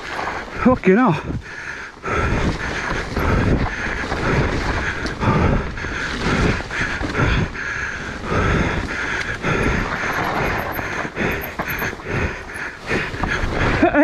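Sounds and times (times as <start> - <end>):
bike tyres rumbling on muddy trail: 0.0 - 14.0
wind on microphone: 2.1 - 14.0.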